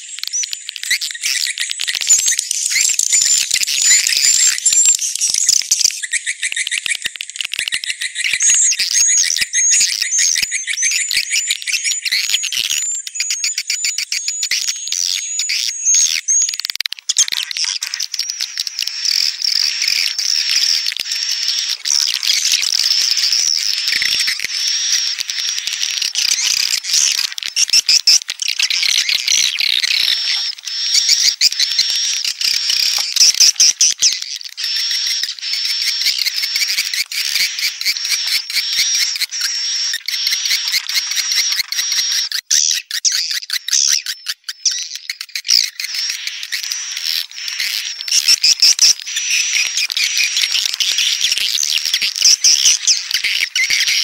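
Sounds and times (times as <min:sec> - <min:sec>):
recorded swiftlet twittering: 0:00.0 - 0:07.0, 0:07.6 - 0:54.0.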